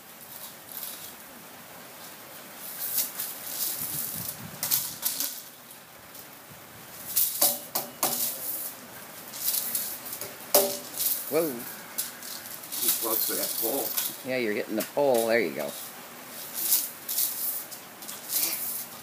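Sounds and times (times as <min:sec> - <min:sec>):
plastic hula hoop rattling: 0:00.2 - 0:01.2, 0:02.6 - 0:06.4, 0:07.0 - 0:19.0.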